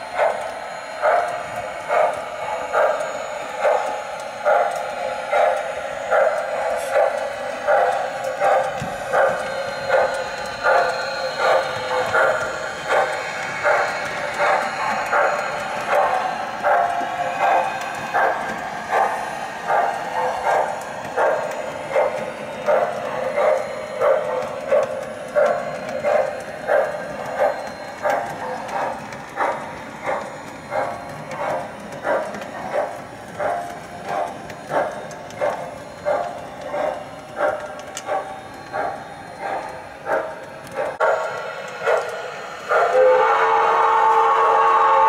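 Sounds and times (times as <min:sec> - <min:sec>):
model train passing: 0:00.0 - 0:45.0.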